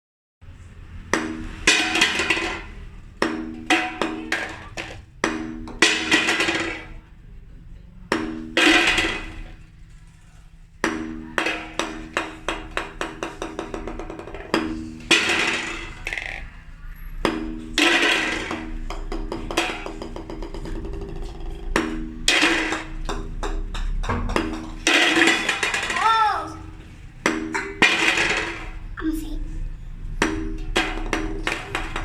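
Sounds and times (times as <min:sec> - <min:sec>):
golf ball bouncing on hard surface: 0:01.0 - 0:07.1, 0:10.8 - 0:16.6, 0:17.2 - 0:29.0, 0:29.9 - 0:32.0.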